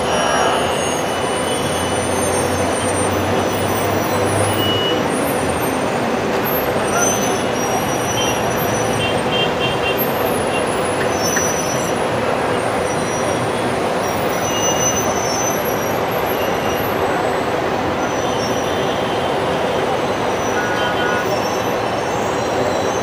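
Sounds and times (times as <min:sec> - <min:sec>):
heavy road traffic: 0:00.0 - 0:23.0.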